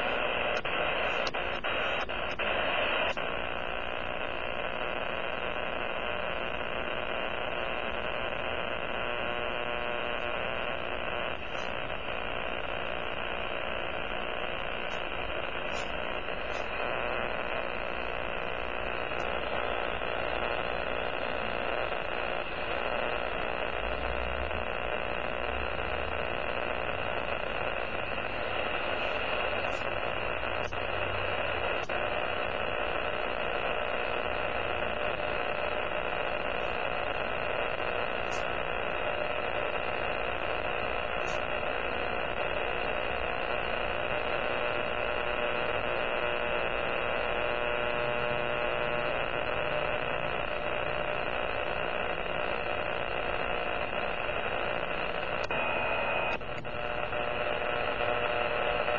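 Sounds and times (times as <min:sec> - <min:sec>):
radio interference noise: 0:00.0 - 0:58.9.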